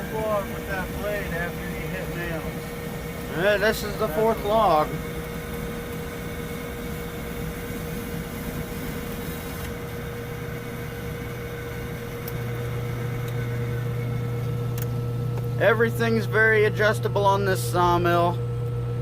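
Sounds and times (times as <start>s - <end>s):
band sawmill high hum: 0.0s - 19.0s
deeper hum: 0.0s - 19.0s.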